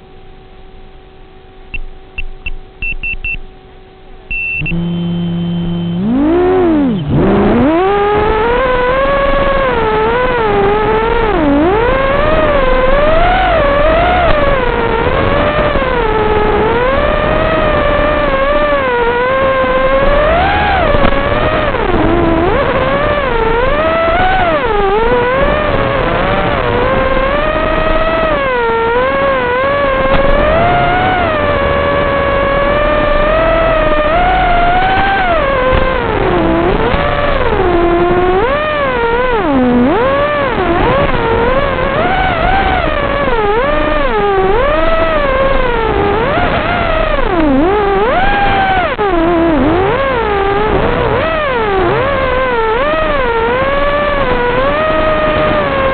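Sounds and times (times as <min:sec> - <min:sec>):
quadcopter motors whining: 0:04.3 - 0:55.9.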